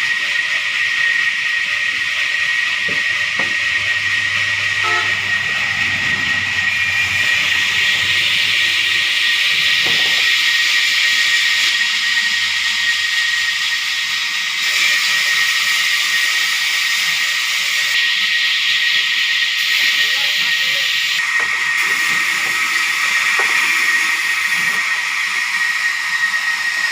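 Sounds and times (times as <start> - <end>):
saw whining through timber: 0.0 - 26.9.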